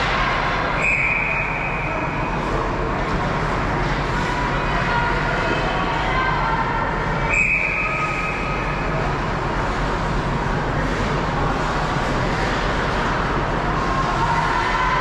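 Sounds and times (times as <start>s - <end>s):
arena rumble and hiss: 0.0s - 15.0s.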